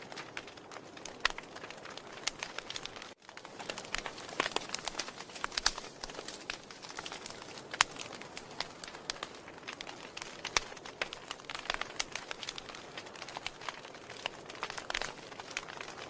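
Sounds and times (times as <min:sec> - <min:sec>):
wood fire crackling and popping: 0:00.0 - 0:16.0
fire hissing: 0:00.1 - 0:16.0.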